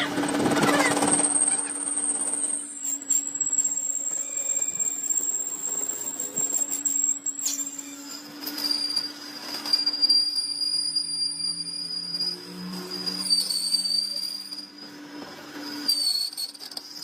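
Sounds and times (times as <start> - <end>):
falling screech: 0.0 - 17.0
machinery humming and whining: 0.0 - 17.0.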